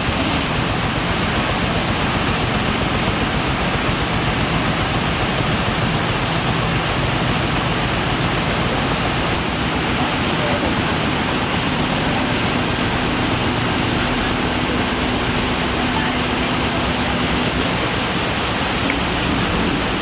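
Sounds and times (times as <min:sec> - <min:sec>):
hydraulic power unit running: 0:00.0 - 0:20.0.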